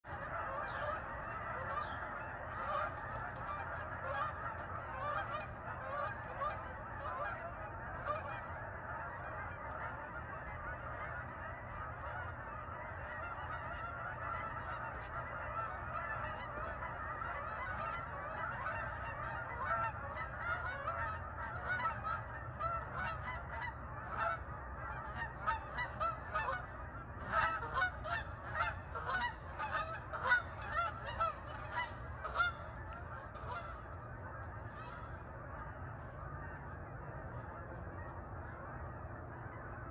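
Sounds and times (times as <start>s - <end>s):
flock of geese honking: 0.0s - 39.9s.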